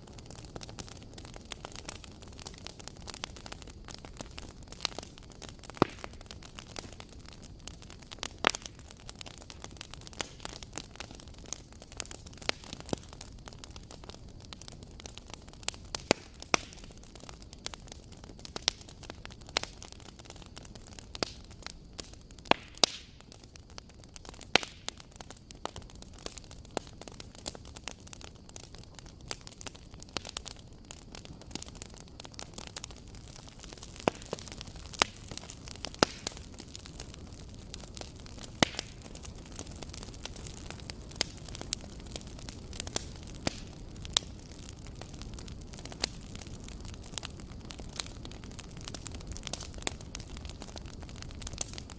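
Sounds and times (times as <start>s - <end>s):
burning wood popping and snapping: 0.0s - 51.9s
low hiss of flames: 0.0s - 51.9s.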